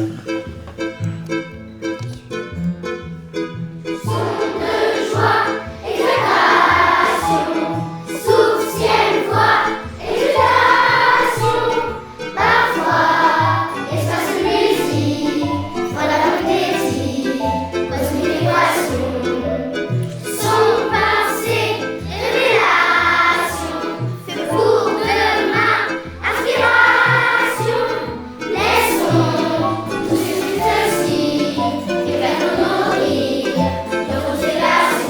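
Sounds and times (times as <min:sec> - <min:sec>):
group of voices singing jazz: 0:04.1 - 0:35.0.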